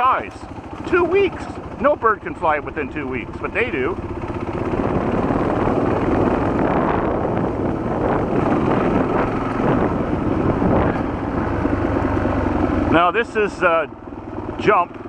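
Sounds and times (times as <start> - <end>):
wind buffeting microphone: 0.0 - 12.9
motorcycle engine running: 0.0 - 15.0.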